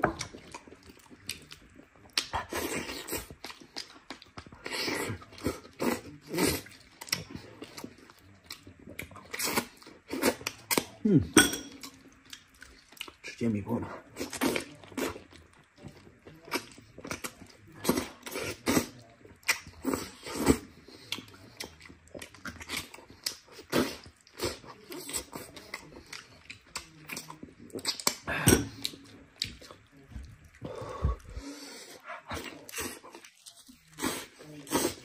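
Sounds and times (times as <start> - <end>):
wet chewing and lip-smacking: 0.1 - 11.0, 11.8 - 13.2, 14.1 - 35.0.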